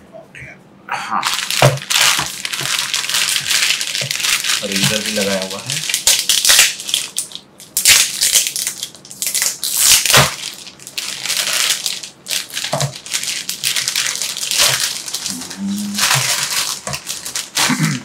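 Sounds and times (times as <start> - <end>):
plastic packaging crinkling: 1.2 - 18.0.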